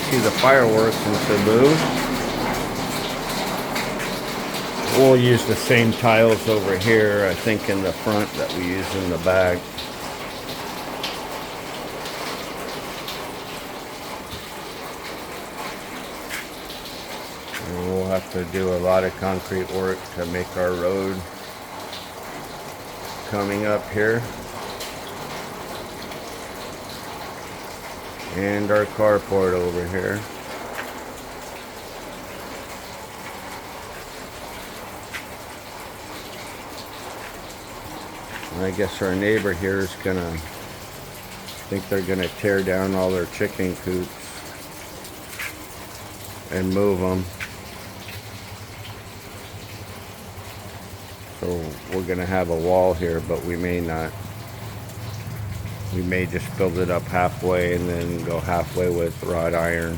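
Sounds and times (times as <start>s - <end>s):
rainwater running and splashing: 0.0s - 59.9s
water drips: 0.0s - 59.9s.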